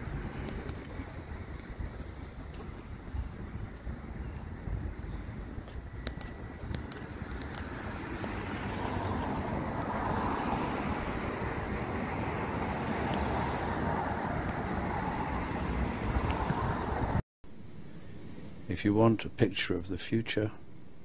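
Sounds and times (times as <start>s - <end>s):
street traffic hum: 0.0s - 17.2s.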